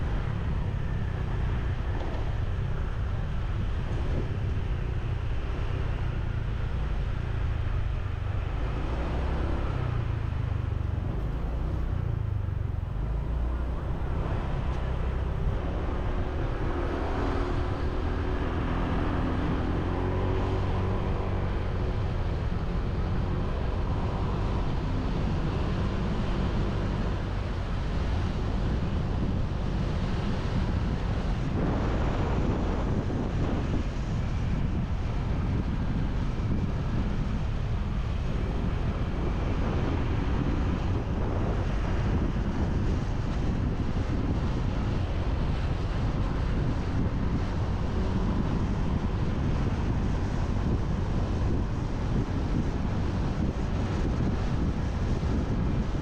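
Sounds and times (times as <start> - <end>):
road noise: 0.0 - 56.0
wind buffeting microphone: 0.0 - 56.0.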